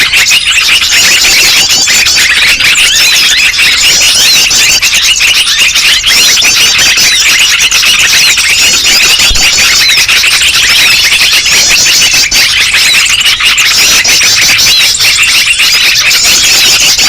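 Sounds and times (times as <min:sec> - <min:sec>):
many small birds chirping: 0:00.0 - 0:17.0.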